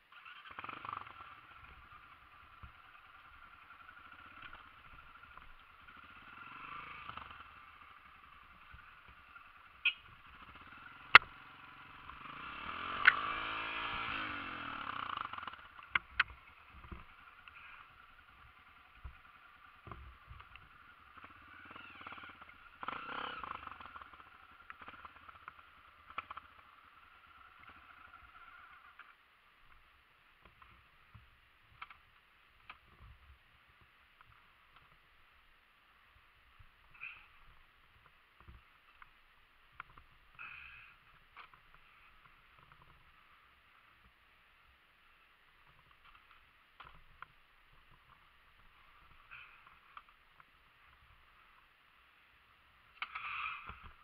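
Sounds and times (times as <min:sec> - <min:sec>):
dirt bike engine running: 0:00.1 - 0:52.2.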